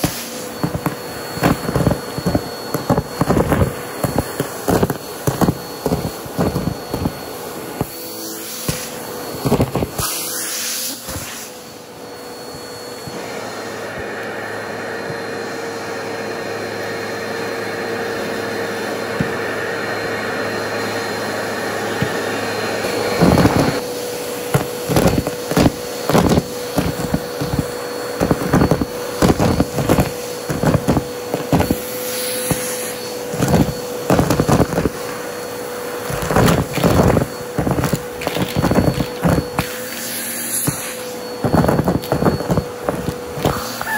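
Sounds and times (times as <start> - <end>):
debris rattling up vacuum hose: 0.0 - 43.9
vacuum cleaner running: 0.0 - 43.9.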